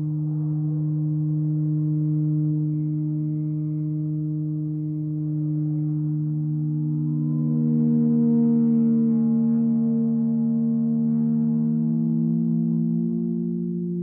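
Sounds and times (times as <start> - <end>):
faint gliding string pitch: 0.0 - 14.0
string feedback drone: 0.0 - 14.0.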